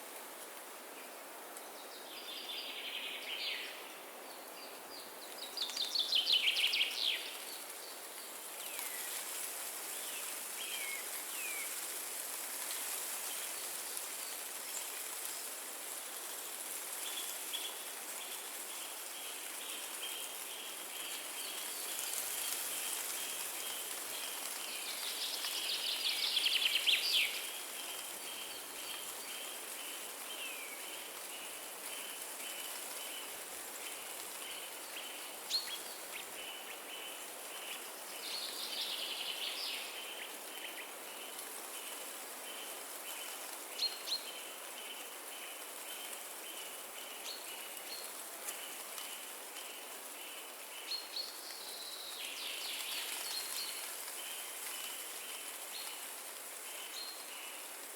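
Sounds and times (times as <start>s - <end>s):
wind through trees: 0.0s - 57.9s.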